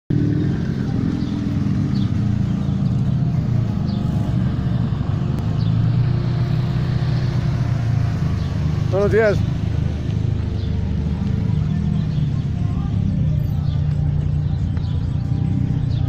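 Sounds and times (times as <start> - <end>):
car engines rumbling: 0.1 - 16.0.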